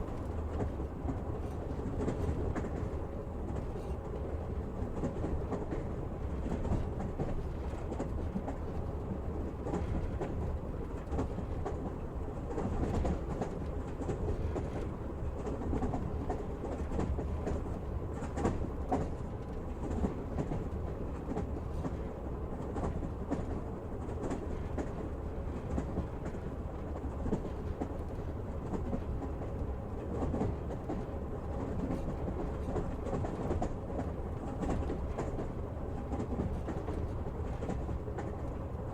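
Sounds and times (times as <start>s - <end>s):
train wheels rumbling: 0.0s - 38.9s.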